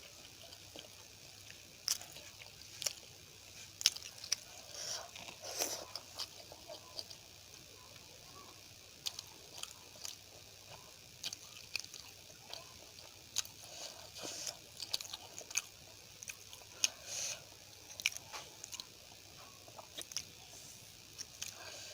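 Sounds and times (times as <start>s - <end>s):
mouth chewing food: 0.0s - 21.9s.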